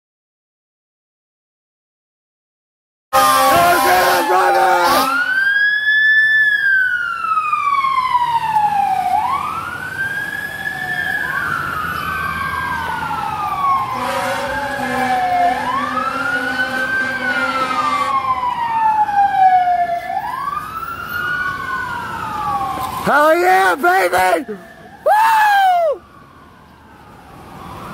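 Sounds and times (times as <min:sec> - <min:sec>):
fire engine siren wailing: 0:03.2 - 0:27.9.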